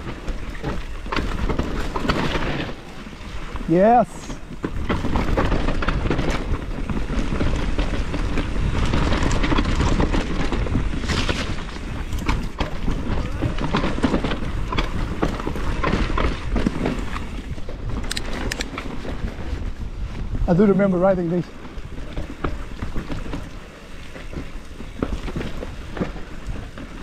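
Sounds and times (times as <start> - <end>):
bike rattling over bumps: 0.0 - 27.0
bike tyres rolling on dirt: 0.0 - 27.0
wind rumble on microphone: 0.0 - 27.0.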